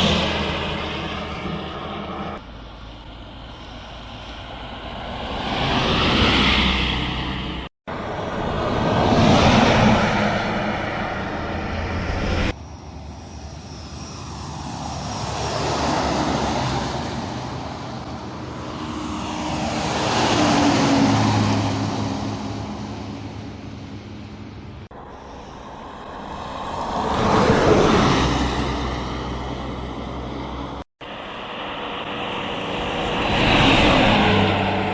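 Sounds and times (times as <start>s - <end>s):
buses passing at speed: 0.0s - 34.9s.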